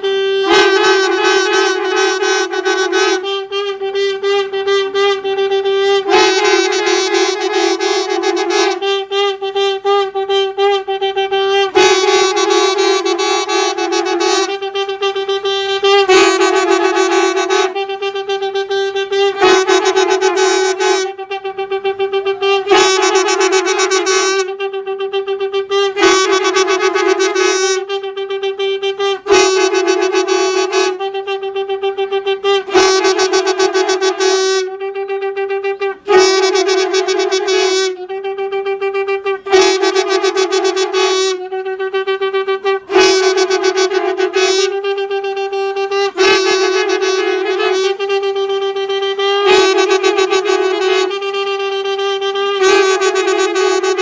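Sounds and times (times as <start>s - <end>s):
bright conch blasts: 0.0s - 54.0s
conch shell held note: 0.0s - 54.0s.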